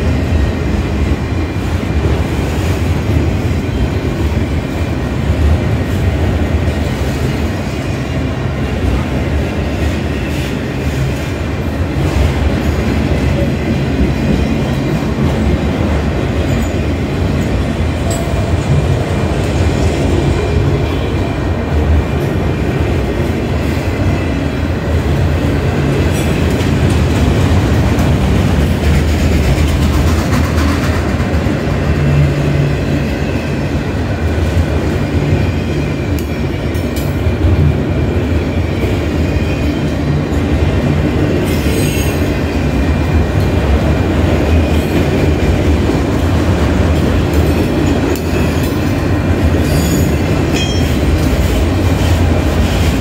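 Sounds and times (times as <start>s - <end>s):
rail clacks: 0.0s - 53.0s
train wheels rumbling on rails: 0.0s - 53.0s.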